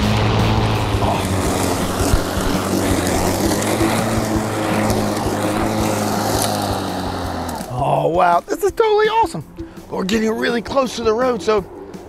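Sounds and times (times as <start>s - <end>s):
electric lawn mower humming: 0.0s - 12.0s.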